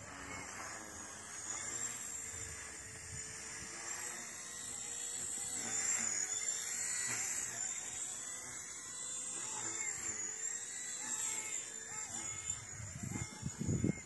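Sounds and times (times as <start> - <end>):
toy helicopter rotor whining: 0.0 - 14.0.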